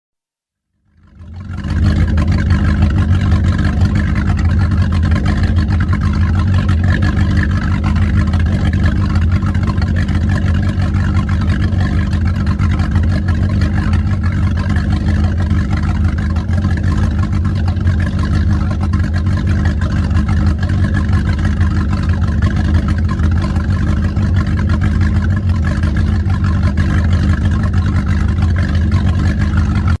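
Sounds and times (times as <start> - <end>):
car engine running steadily: 0.8 - 30.0.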